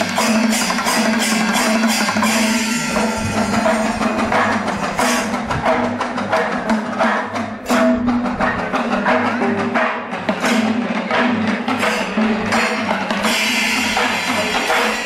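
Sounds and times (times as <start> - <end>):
fast drum strokes: 0.0 - 15.0.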